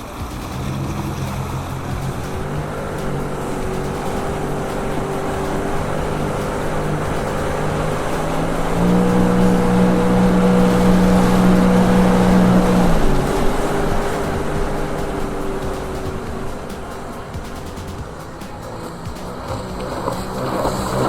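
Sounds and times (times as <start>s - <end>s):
jet ski engine revving: 0.0s - 21.0s.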